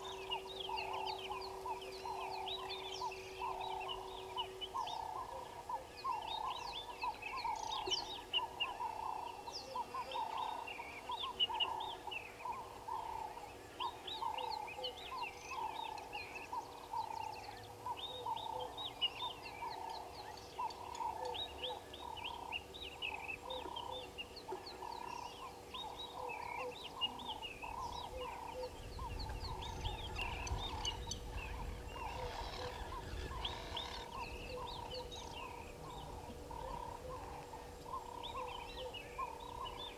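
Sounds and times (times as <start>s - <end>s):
birds chirping and calling: 0.0s - 39.9s
repeated lower bird calls: 0.0s - 39.9s.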